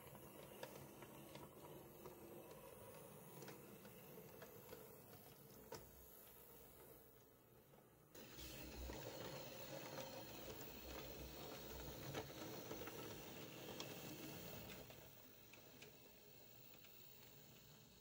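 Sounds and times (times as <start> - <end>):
model train motor whirring: 0.0 - 7.1, 8.2 - 18.0.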